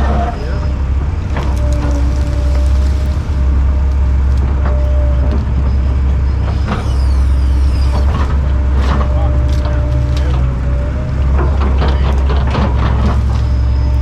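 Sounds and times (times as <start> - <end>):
heavy diesel machinery rumbling: 0.0 - 14.0.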